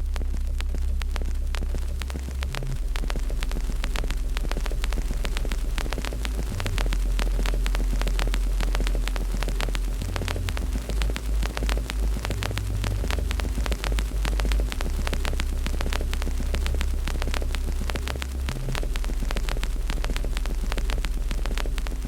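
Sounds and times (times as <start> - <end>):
low rumble: 0.0 - 22.0
wood fire crackling and popping: 0.0 - 22.0.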